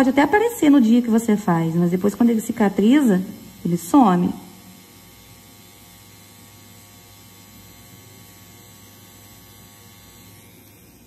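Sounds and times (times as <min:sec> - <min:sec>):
faint electric buzz of tattoo machine: 0:00.0 - 0:11.0.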